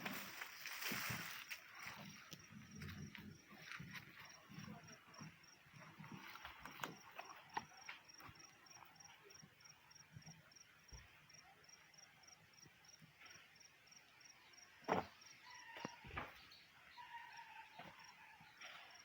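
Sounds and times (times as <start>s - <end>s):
insect chirping: 0.1s - 19.0s.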